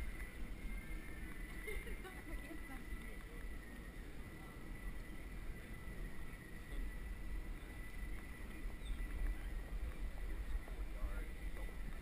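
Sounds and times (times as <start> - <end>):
faint steady high tone: 0.0 - 12.0
low rumbling wind noise: 0.0 - 12.0.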